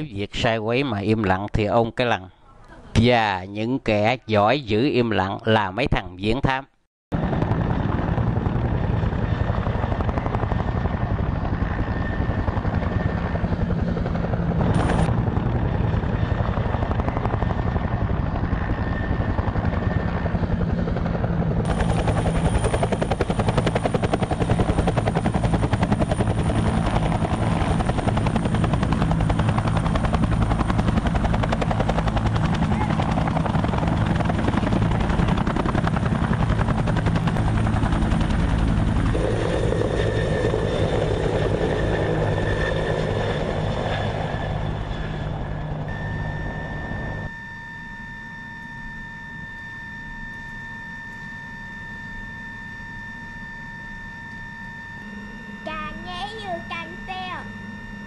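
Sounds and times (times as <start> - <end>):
helicopter rotor blades beating: 7.1 - 58.0.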